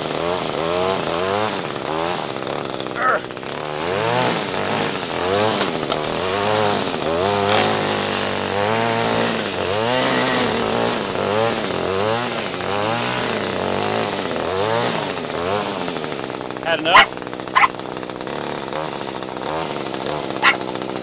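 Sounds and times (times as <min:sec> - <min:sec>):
string trimmer engine revving: 0:00.0 - 0:21.0.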